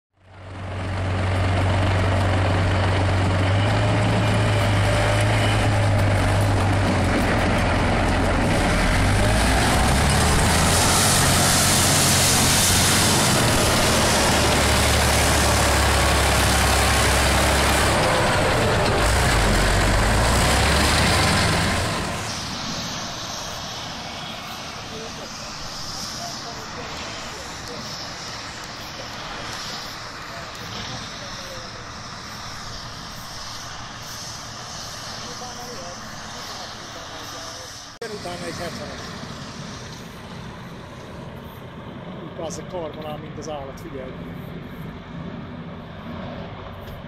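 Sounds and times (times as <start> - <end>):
tracked vehicle diesel engine: 0.2 - 47.0.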